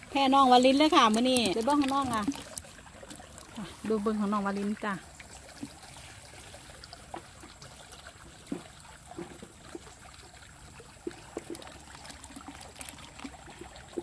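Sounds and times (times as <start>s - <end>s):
soft water drips and plops: 0.0s - 14.0s.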